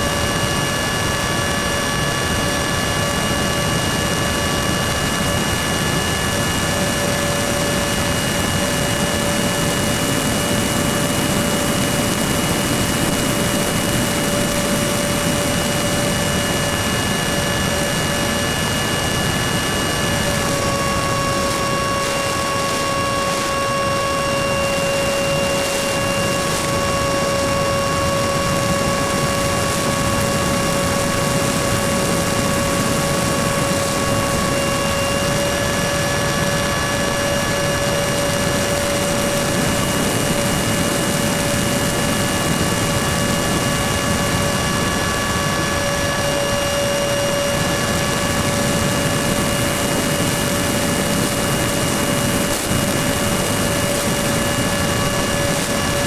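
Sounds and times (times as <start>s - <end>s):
electric fan motor whine: 0.0s - 56.0s
rushing wind: 0.0s - 56.0s.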